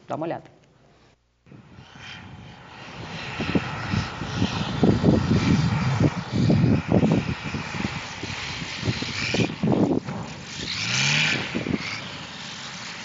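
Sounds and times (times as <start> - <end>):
propeller airplane flying overhead: 1.5 - 13.0.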